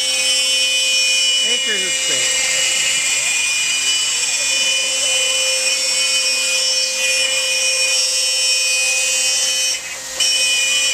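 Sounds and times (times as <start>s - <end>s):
router spindle whine: 0.0s - 10.9s
stepper motors sweeping pitch: 0.0s - 10.9s.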